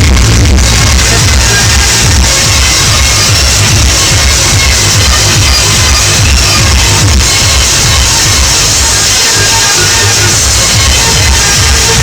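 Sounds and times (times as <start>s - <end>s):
heavy pulsing bass: 0.0s - 12.0s
loud electronic dance music: 0.0s - 12.0s.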